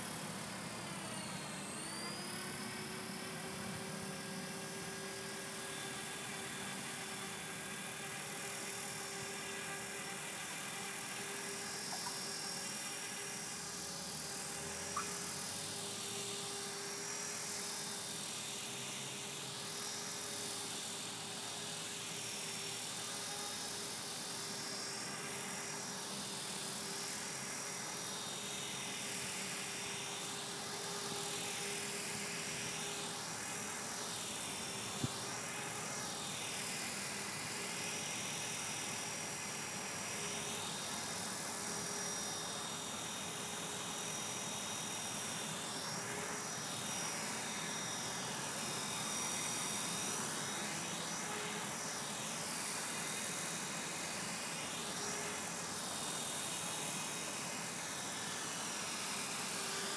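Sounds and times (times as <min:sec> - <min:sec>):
rc helicopter whining: 0:00.0 - 0:59.9.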